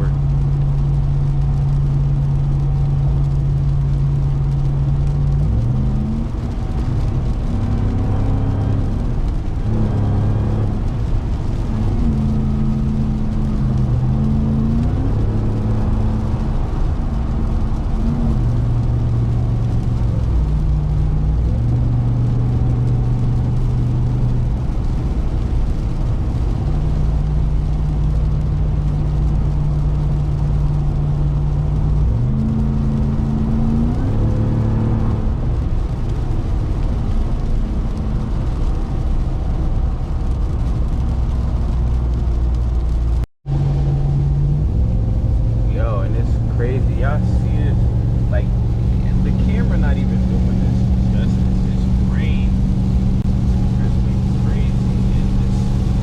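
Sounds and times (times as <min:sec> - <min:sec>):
truck engine changing gears: 0:00.0 - 0:56.0
tyres hissing on wet road: 0:00.0 - 0:56.0.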